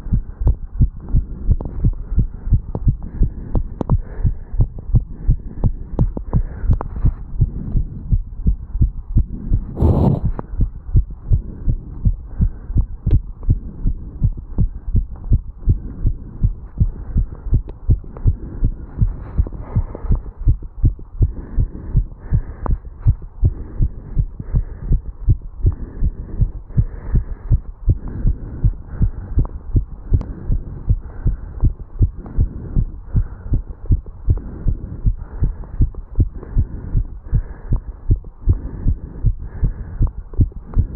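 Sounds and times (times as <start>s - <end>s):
heartbeat: 0.0s - 40.9s.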